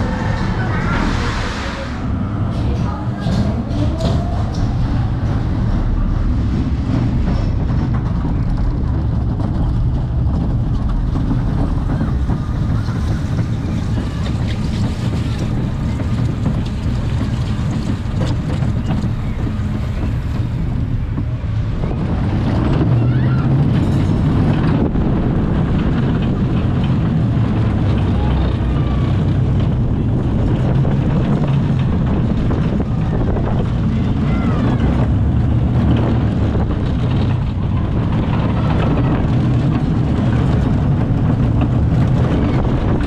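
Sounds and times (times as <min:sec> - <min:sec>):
roller coaster wheels rumbling: 0:00.0 - 0:43.0
wind buffeting microphone: 0:00.0 - 0:43.0.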